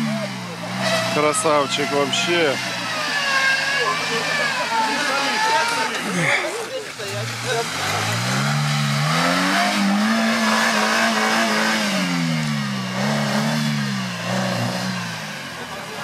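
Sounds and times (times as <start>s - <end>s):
engine revving hard: 0.0s - 16.0s.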